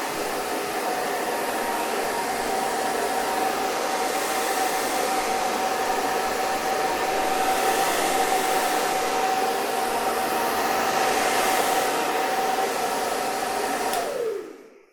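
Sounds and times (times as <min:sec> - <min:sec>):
hair dryer running: 0:00.0 - 0:14.9.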